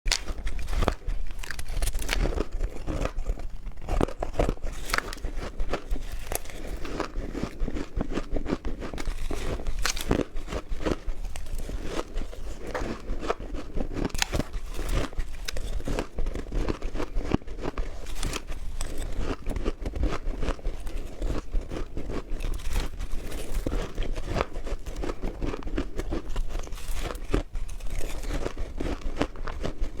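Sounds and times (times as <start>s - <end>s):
ice being chewed: 0.1s - 30.0s.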